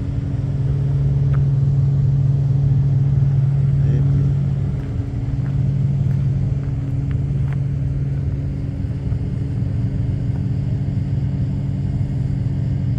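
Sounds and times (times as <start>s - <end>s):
truck engine humming: 0.0s - 12.9s.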